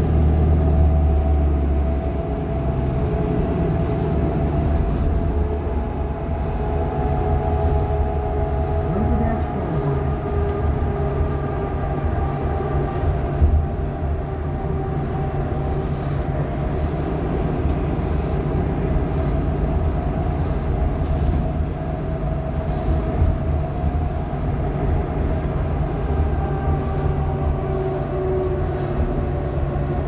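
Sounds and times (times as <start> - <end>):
bus engine drone with whine: 0.0 - 30.0.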